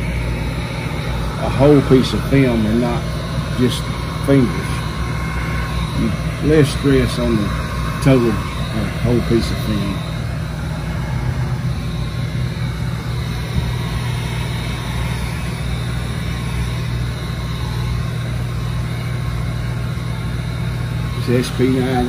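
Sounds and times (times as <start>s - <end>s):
heat gun fan humming: 0.0s - 22.0s.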